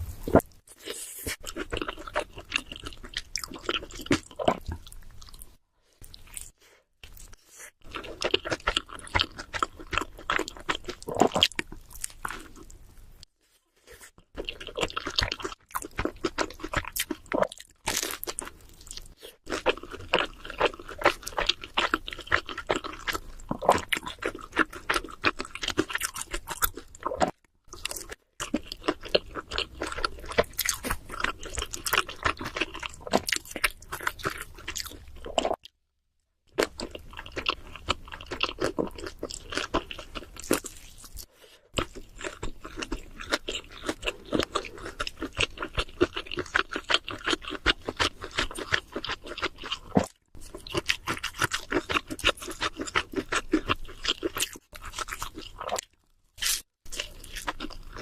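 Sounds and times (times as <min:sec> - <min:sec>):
chewing and crunching pizza: 0:00.2 - 0:35.8, 0:36.5 - 0:58.0.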